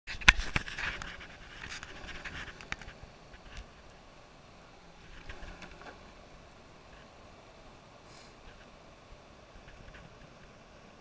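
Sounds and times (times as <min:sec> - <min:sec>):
longboard wheels rolling on asphalt: 0:00.1 - 0:11.0.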